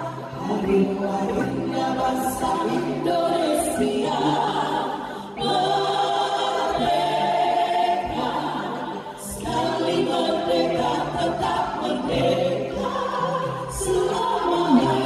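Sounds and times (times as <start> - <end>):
women singing together: 0.0 - 15.0
wooden xylophones: 0.0 - 15.0.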